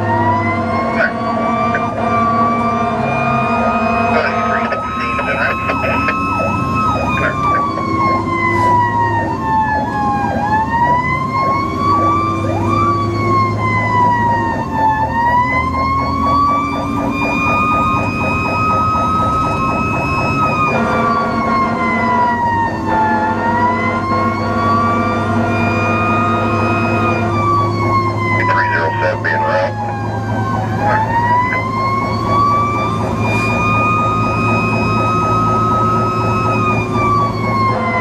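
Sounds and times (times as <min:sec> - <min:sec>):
fire truck siren wailing: 0:00.0 - 0:38.0
truck engine drone: 0:00.0 - 0:38.0.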